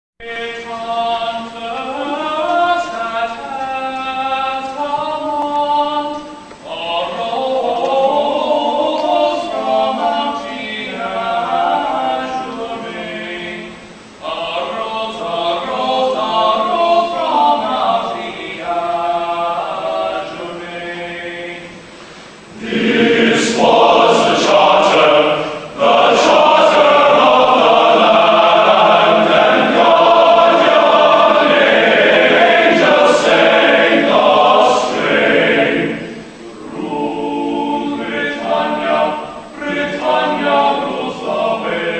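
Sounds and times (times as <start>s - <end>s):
choir singing: 0.2s - 21.9s, 22.5s - 41.9s.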